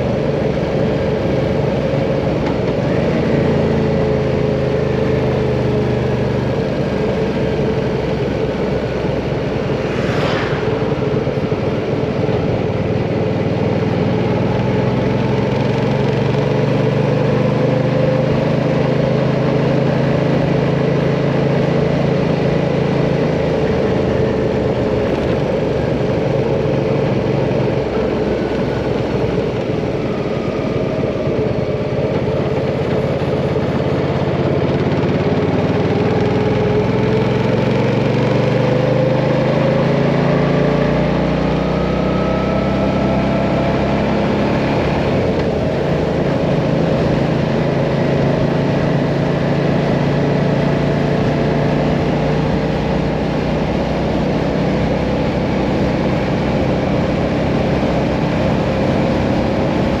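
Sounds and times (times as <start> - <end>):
motorcycle engine revving: 0.0 - 60.0
wind and road noise: 0.0 - 60.0.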